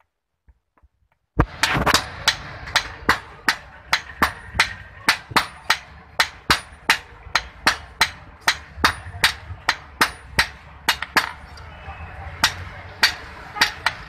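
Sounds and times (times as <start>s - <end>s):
hammers striking iron on anvil: 1.4s - 14.0s.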